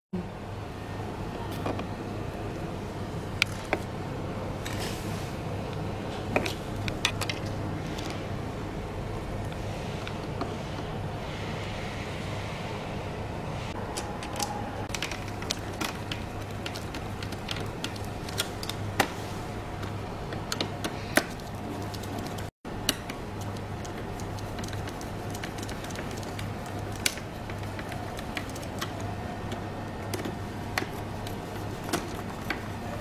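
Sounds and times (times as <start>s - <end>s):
steady low hum: 0.2s - 33.0s.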